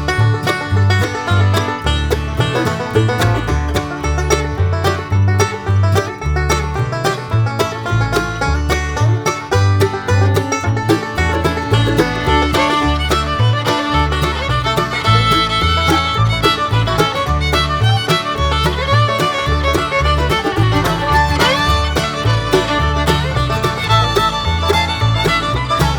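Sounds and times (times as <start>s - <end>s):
bluegrass music with banjo and fiddle: 0.0s - 25.9s.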